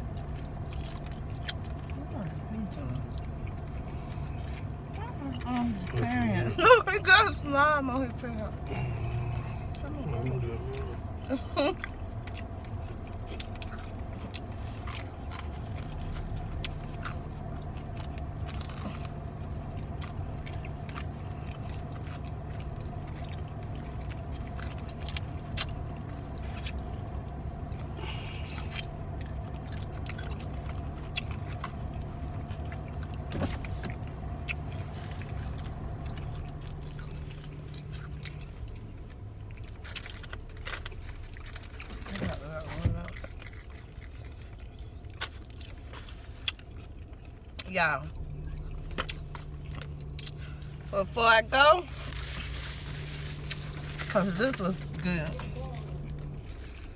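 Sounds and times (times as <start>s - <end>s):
car cabin hum: 0.0s - 39.3s, 47.7s - 56.9s
people eating clicks and rustles: 0.0s - 56.9s.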